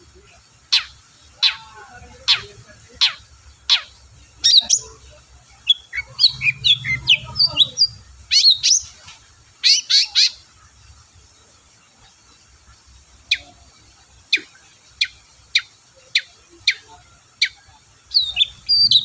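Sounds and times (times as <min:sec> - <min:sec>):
shrike calling: 0:00.1 - 0:09.0, 0:09.6 - 0:10.6, 0:12.8 - 0:19.0.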